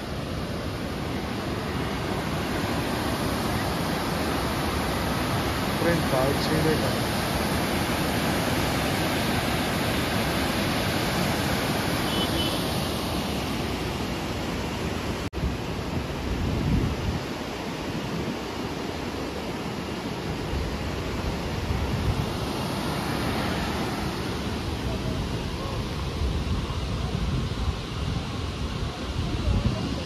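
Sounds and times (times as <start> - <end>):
river water rushing over rocks: 0.0 - 16.4, 17.2 - 30.0
wind: 0.0 - 30.0.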